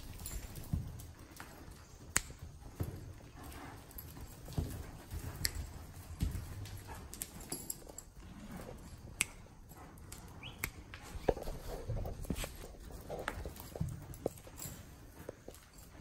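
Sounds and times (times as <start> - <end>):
horse hooves in sand: 0.0 - 16.0.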